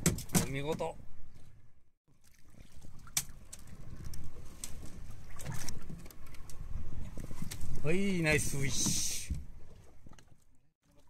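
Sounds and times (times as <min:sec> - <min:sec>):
water noise: 0:00.0 - 0:11.0.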